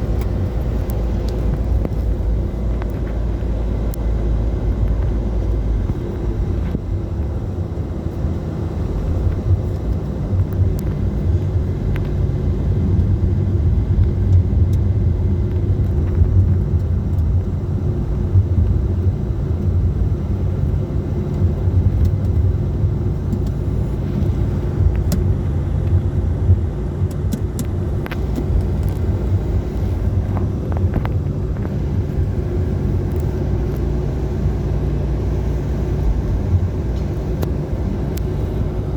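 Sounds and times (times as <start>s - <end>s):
highway vehicle rumble: 0.0s - 38.9s.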